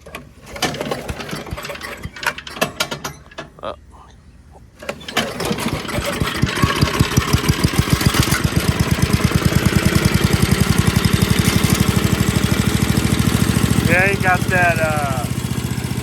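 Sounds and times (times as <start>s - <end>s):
small engine starting and running: 0.0s - 3.4s, 4.8s - 16.0s.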